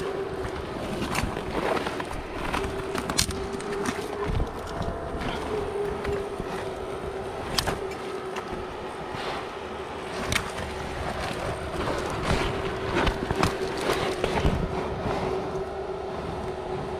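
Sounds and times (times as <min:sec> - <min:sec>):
leaves and branches rustling: 0:00.0 - 0:16.9
steady low hum: 0:00.0 - 0:16.9.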